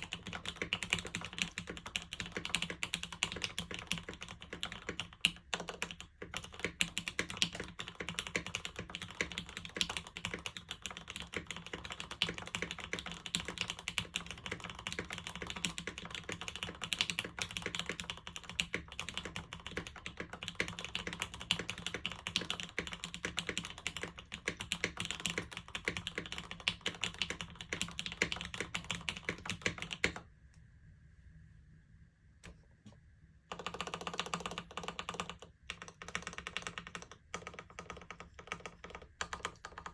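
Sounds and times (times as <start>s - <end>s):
fast mechanical keyboard typing: 0.0s - 30.2s, 33.5s - 39.9s.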